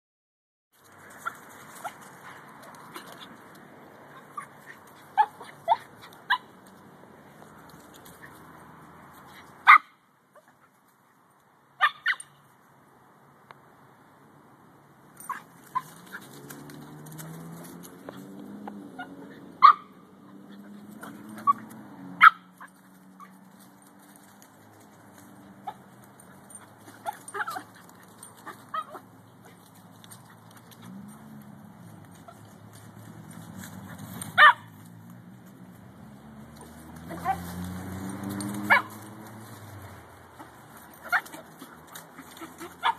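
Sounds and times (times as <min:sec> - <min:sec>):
dogs yipping and barking: 0:01.0 - 0:10.8, 0:11.8 - 0:12.4, 0:15.2 - 0:42.9.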